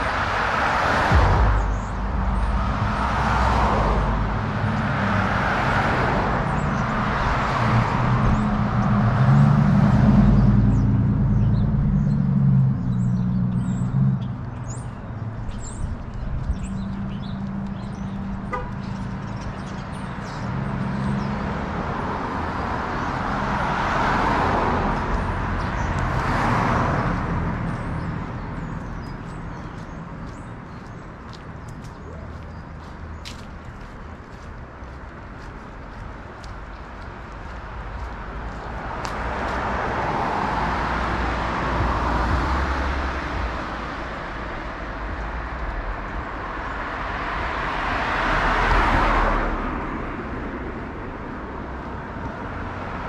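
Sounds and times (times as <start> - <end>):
cars passing: 0.0 - 53.0.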